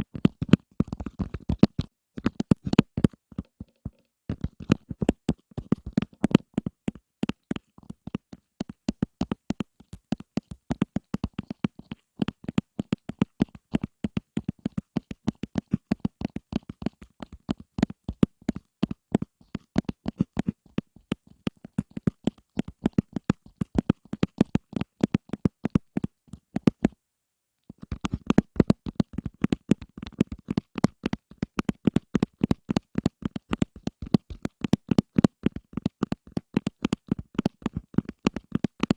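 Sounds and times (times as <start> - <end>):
rapid sharp tapping: 0.1 - 27.0, 27.8 - 38.9.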